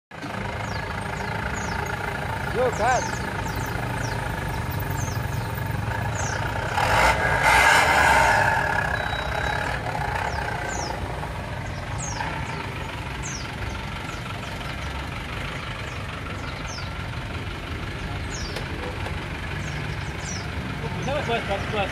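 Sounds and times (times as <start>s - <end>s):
diesel engine revving and idling: 0.1s - 21.9s.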